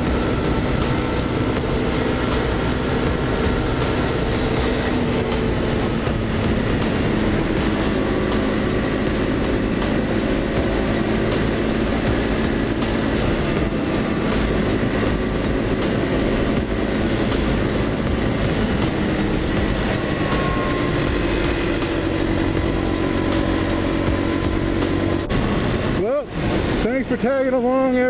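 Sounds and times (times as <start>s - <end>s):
motorcycle cruising: 0.0s - 27.0s
wind rush: 0.0s - 28.0s.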